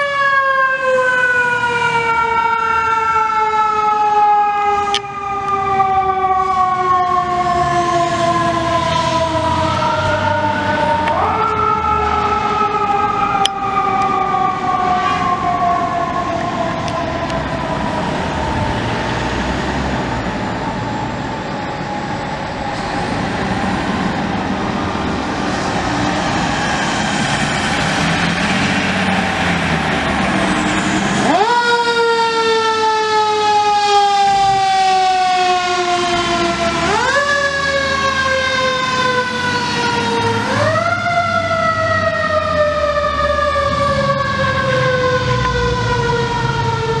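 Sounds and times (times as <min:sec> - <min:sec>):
fire engine rumbling past: 0:00.0 - 0:47.0
rising and falling siren: 0:00.0 - 0:47.0.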